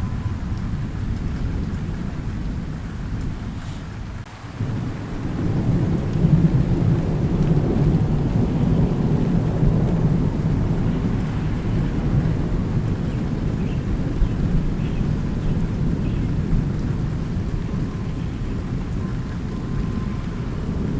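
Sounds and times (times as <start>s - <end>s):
rolling thunder: 0.0s - 20.9s
steady rain: 0.0s - 20.9s.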